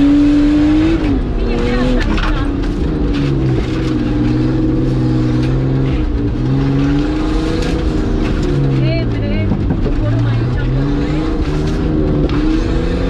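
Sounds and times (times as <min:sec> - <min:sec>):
engine running hard: 0:00.0 - 0:13.0.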